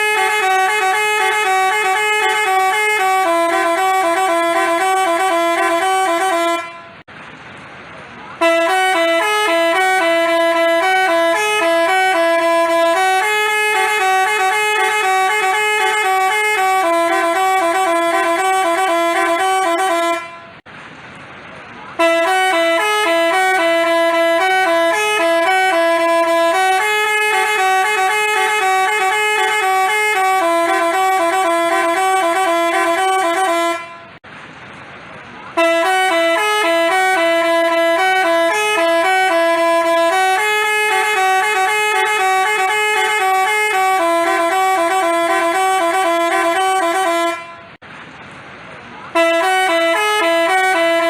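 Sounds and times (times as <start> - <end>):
musical bus horn tune: 0.0 - 7.1, 8.3 - 20.7, 21.9 - 34.2, 35.5 - 47.8, 49.1 - 51.0.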